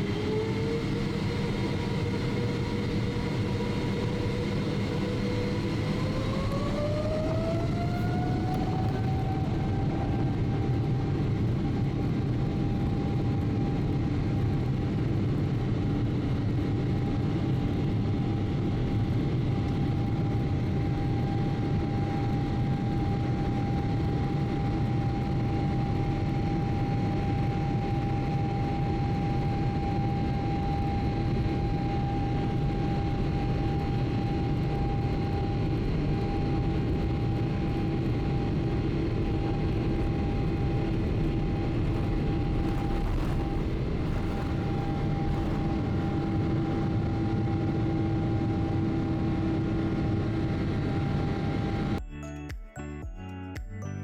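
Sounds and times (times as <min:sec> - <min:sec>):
airplane cabin engine rumble: 0:00.0 - 0:52.0
jet engine whine: 0:00.0 - 0:52.0.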